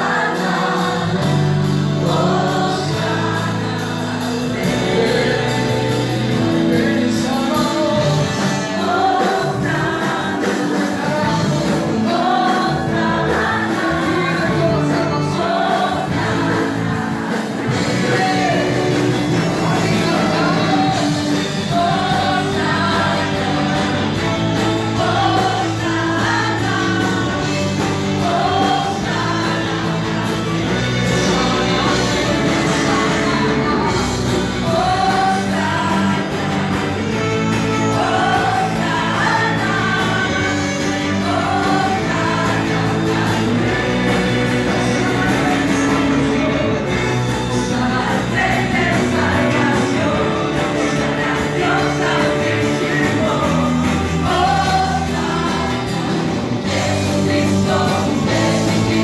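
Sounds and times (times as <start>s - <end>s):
people singing: 0.0s - 59.0s
worship band playing: 0.0s - 59.0s.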